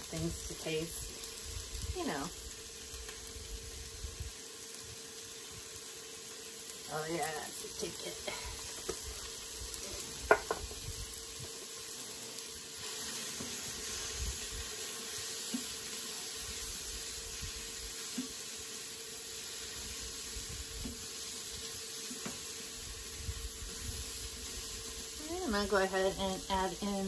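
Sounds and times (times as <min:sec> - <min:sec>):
onions sizzling in a pot: 0:00.0 - 0:27.0.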